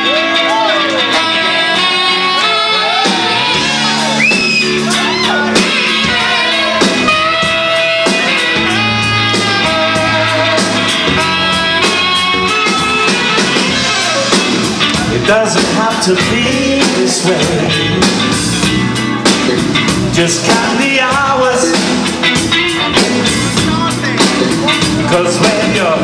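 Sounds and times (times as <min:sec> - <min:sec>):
electric guitar: 0:00.0 - 0:26.0
live band playing pop-soul: 0:00.0 - 0:26.0
sliding melody line: 0:00.1 - 0:26.0.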